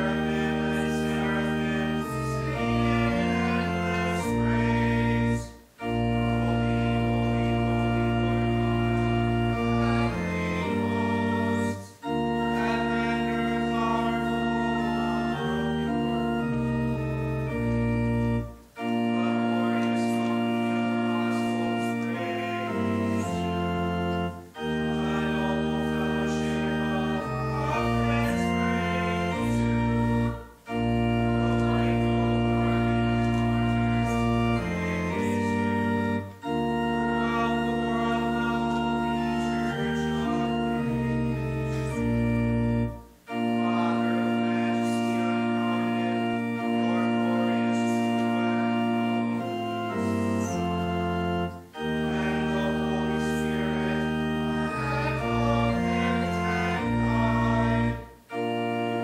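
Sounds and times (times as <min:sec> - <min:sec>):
organ playing slow chords: 0:00.0 - 0:59.0.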